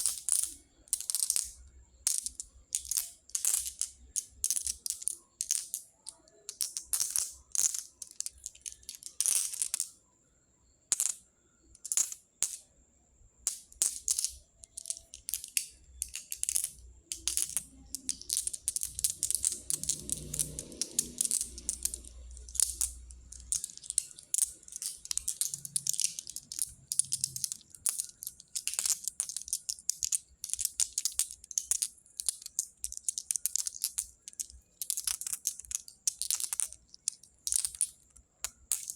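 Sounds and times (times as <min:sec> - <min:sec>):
pebbles clicking together: 0:00.0 - 0:10.0, 0:10.9 - 0:12.7, 0:13.4 - 0:38.9.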